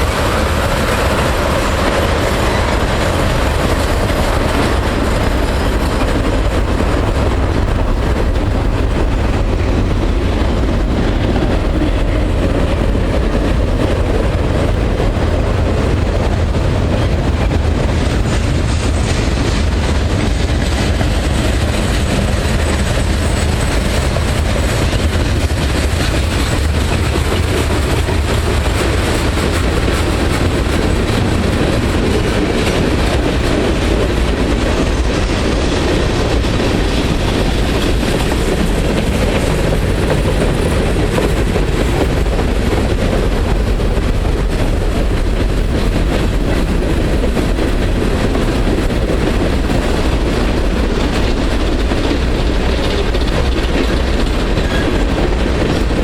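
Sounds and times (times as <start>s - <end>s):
freight train rumbling past: 0.0s - 56.0s
steel wheels clattering on rails: 0.0s - 56.0s.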